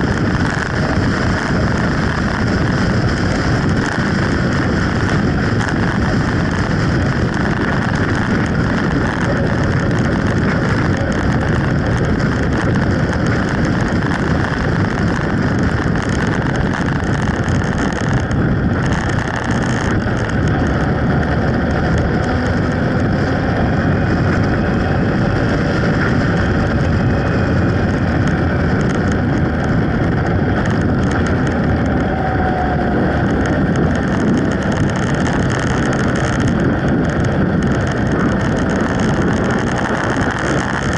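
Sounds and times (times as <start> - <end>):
motorcycle engine: 0.0 - 40.9
tyre noise: 0.0 - 40.9
wind rush over microphone: 0.0 - 40.9.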